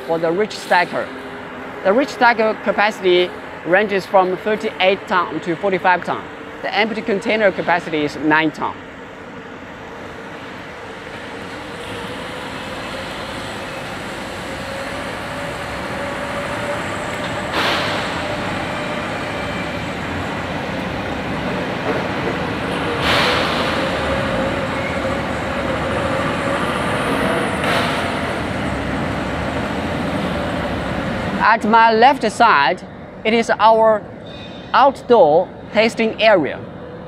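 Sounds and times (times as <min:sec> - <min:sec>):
machinery noise with drone: 0:00.0 - 0:37.0.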